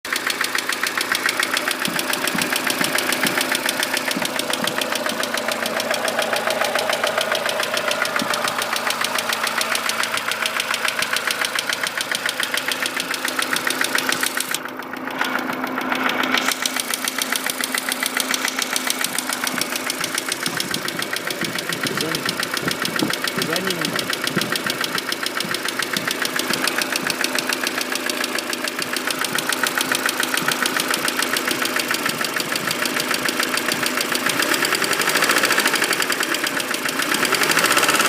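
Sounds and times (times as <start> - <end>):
car engine running with knock: 0.1 - 38.0.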